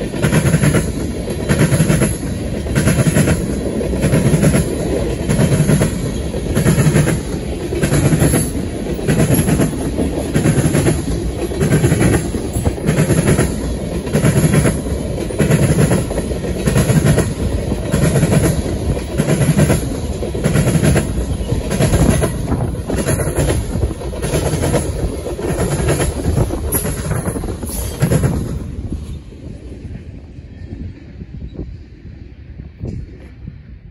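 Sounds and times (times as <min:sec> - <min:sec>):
train wheels clacking over rail joints: 0:00.0 - 0:29.1
low train rumble: 0:00.0 - 0:33.9.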